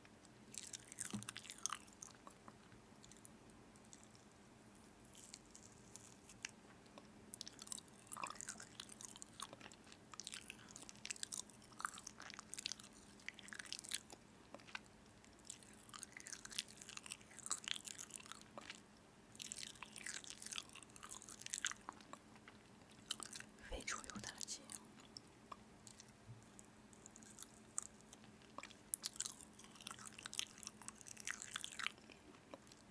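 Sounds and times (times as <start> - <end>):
person chewing crunchy food: 0.5 - 2.4, 5.0 - 6.6, 7.4 - 23.5, 24.2 - 32.9.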